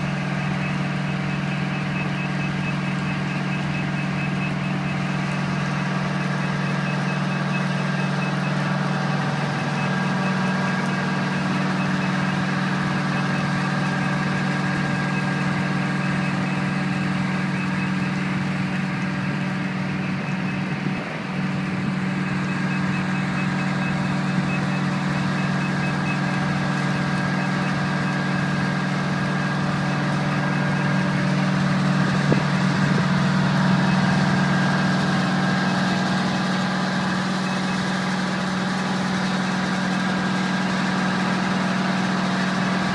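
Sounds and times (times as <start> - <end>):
rapid high-pitched warning beeps: 0.0 - 38.2
diesel engine running: 0.0 - 42.9.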